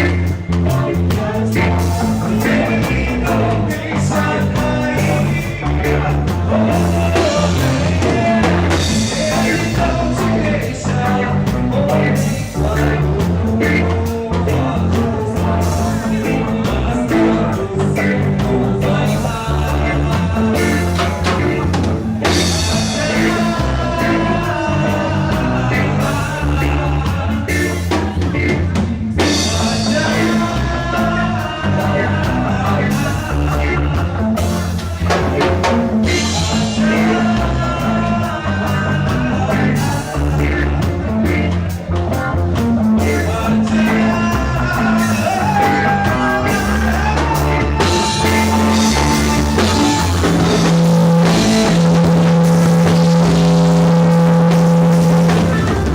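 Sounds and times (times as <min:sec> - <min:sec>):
bass: 0:00.0 - 0:55.9
drum kit: 0:00.0 - 0:55.9
person singing: 0:00.0 - 0:55.9
rock band playing: 0:00.0 - 0:55.9.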